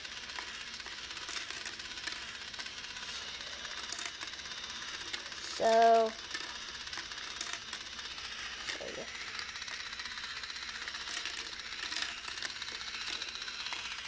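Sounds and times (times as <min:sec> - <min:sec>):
marbles clicking on plastic track: 0:00.0 - 0:14.0
toy motor rapid clicking: 0:00.0 - 0:14.0.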